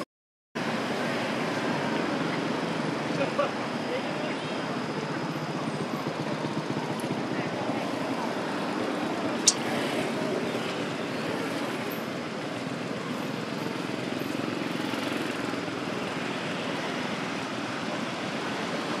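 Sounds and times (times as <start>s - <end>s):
outdoor background noise: 0.6s - 19.0s.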